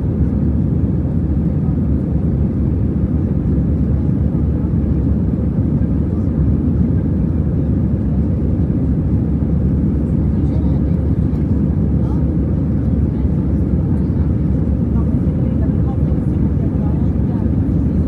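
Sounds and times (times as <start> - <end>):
airliner cabin roar: 0.0 - 18.0.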